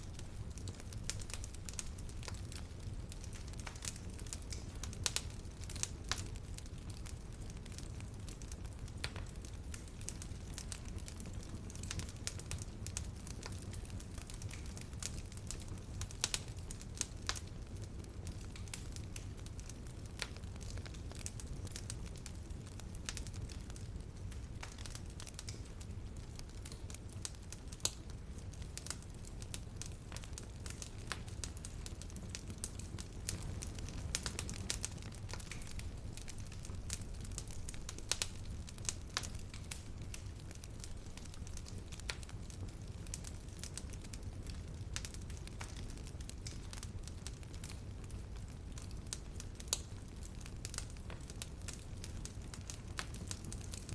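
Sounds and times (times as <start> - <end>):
low rumble of flame: 0.0 - 53.9
wood fire crackling and popping: 0.0 - 53.9.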